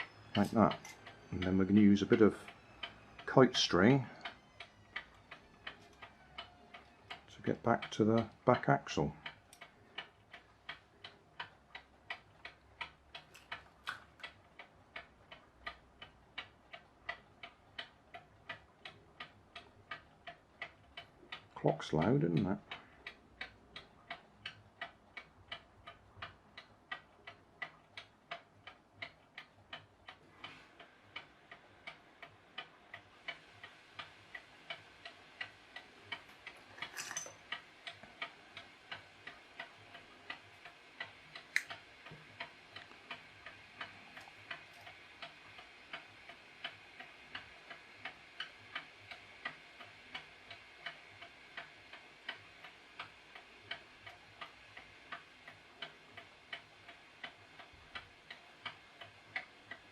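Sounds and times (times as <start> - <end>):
mechanical clock ticking: 0.0 - 59.9.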